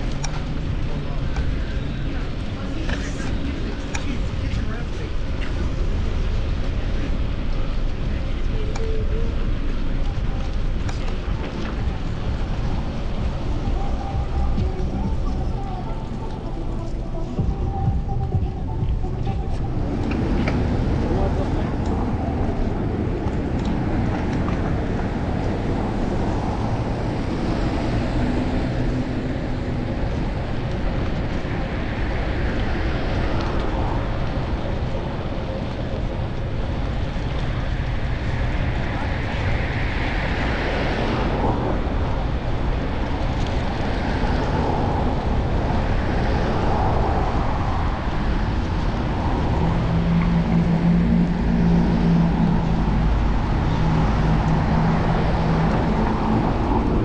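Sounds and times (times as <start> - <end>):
street noise: 0.0 - 57.0
wind rush on microphone: 0.0 - 57.0.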